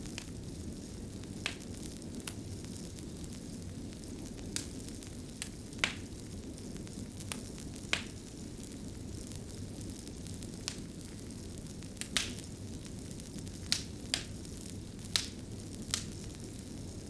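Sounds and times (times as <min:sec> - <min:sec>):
fire crackles and pops: 0:00.0 - 0:17.0
wood fire rumble: 0:00.0 - 0:17.0.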